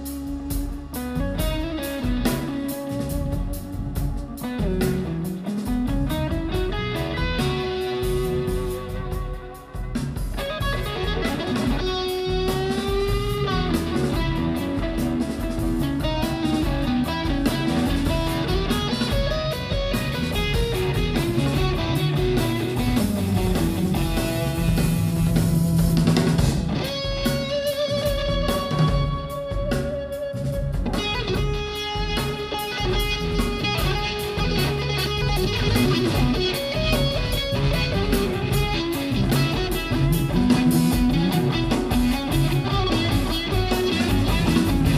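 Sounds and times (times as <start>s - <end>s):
drums: 0.0s - 44.9s
electric guitar lead: 0.0s - 44.9s.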